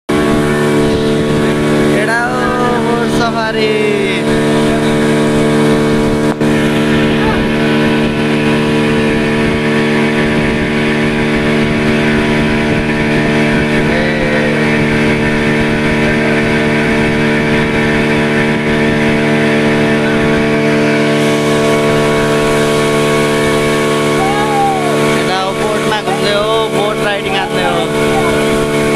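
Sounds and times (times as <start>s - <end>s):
motorboat engine droning: 0.1s - 28.9s.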